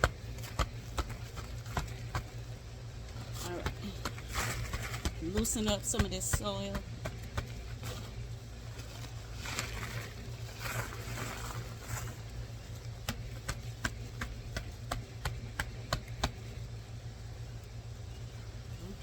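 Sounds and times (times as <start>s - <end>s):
hands scraping dry soil: 0.0s - 16.6s
low steady hum: 0.0s - 19.0s.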